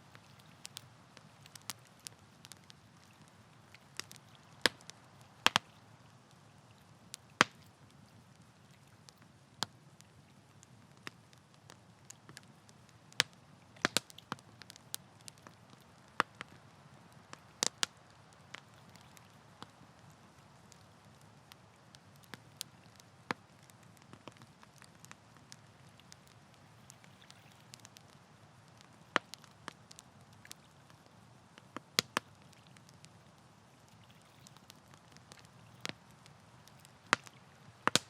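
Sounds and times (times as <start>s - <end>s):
campfire crackling and popping: 0.0s - 38.0s
low steady hiss: 0.0s - 38.0s.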